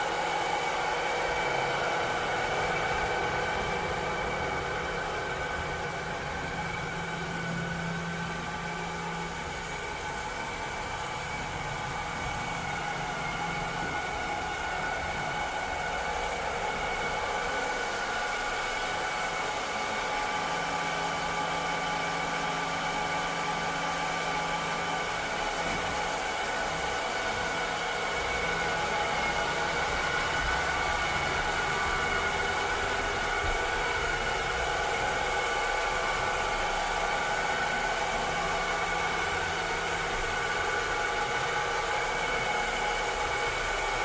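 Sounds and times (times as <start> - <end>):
steady whining tones: 0.0 - 44.0.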